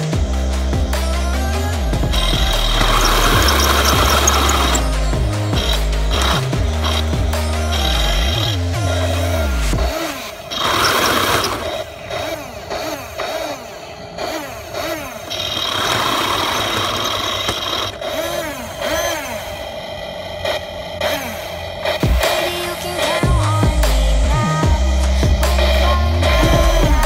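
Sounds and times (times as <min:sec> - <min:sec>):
simulated tank engine sound: 0:00.0 - 0:27.0.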